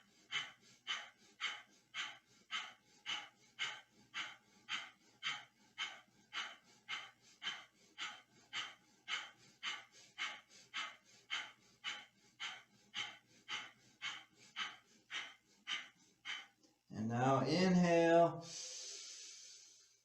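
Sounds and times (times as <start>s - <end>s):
rapid forceful nose breathing: 0.0s - 16.6s, 18.4s - 20.0s.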